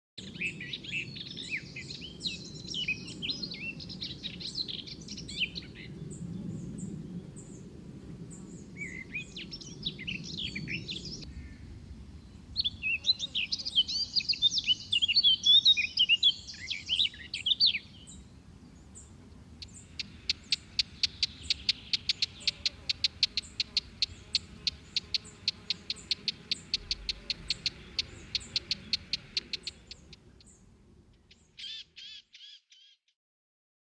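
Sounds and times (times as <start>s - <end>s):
songbirds singing: 0.2s - 33.1s.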